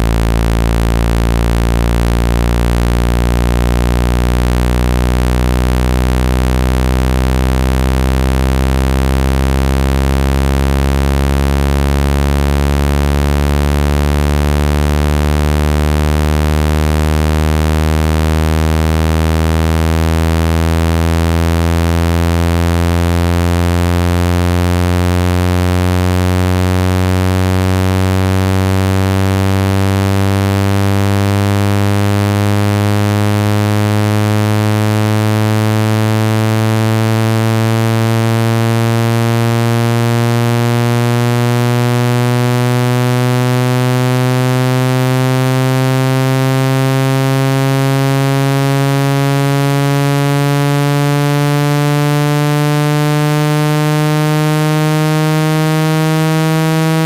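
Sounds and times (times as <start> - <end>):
buzzy low electronic tone rising: 0.0 - 57.0.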